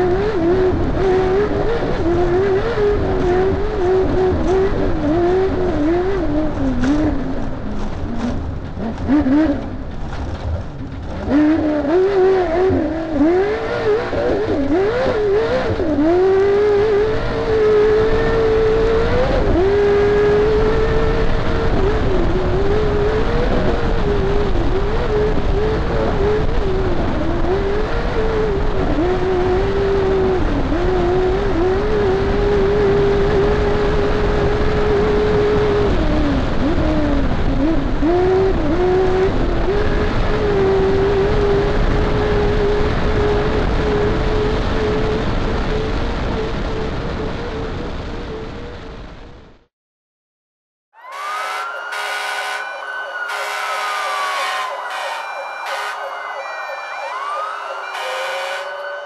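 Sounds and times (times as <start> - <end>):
race car engine revving: 0.0 - 49.4.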